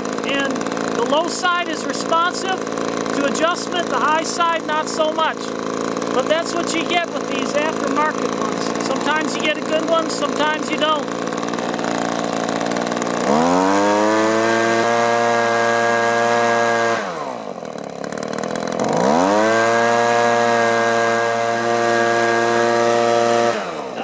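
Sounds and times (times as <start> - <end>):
leaf blower engine revving: 0.0 - 24.0.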